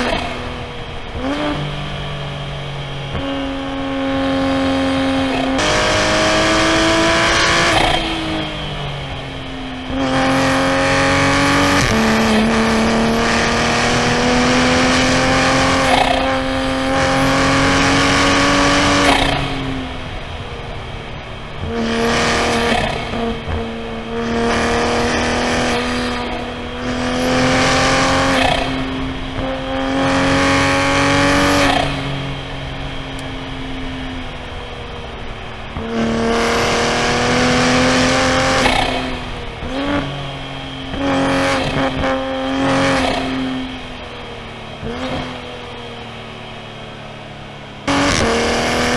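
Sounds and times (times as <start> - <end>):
turbocharged car engine revving: 0.0 - 48.9.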